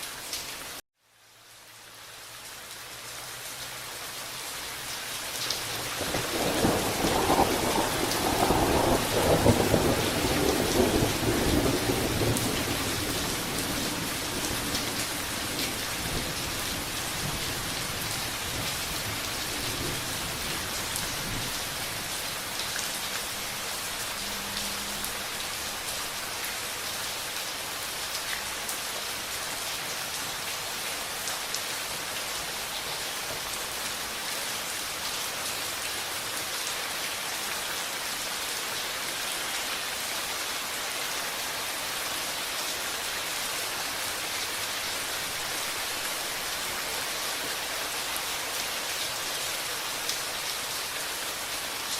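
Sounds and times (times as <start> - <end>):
steady rain: 0.0 - 51.9.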